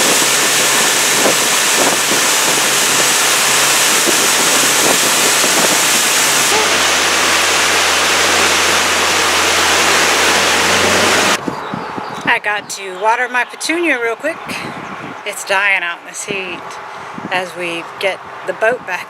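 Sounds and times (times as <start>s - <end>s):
rush of wind and water: 0.0s - 19.0s.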